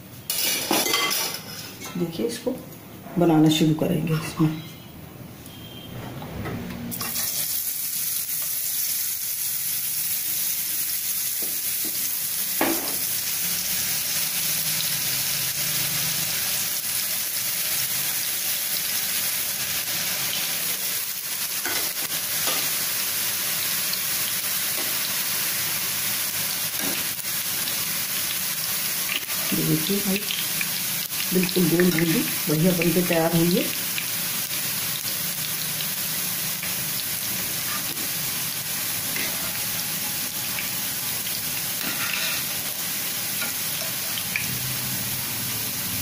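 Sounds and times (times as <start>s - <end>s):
batter sizzling in hot oil: 6.9s - 46.0s.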